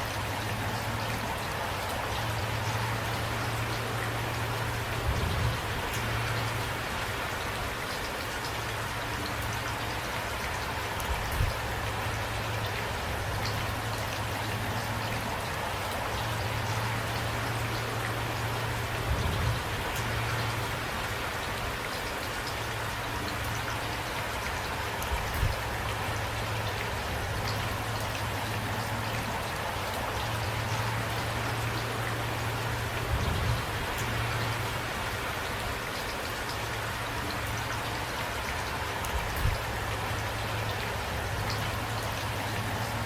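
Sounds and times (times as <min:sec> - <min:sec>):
light rain falling: 0:00.0 - 0:43.0.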